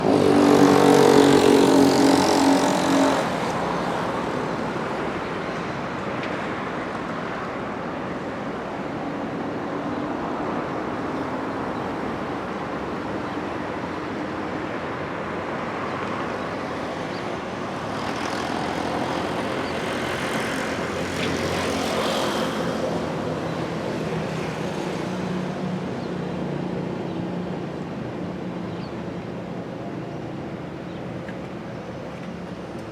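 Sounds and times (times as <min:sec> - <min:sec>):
road and wind noise: 0:00.0 - 0:32.9.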